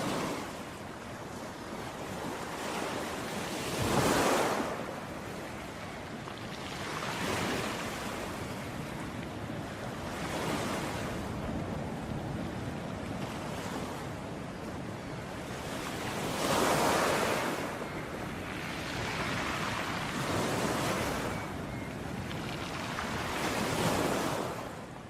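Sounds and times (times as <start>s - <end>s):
ocean waves washing onto shore: 0.0s - 25.0s.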